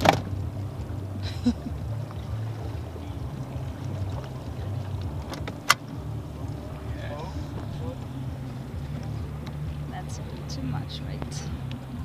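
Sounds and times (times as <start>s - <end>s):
light water noise: 0.0s - 12.0s
steady low hum: 0.0s - 12.0s.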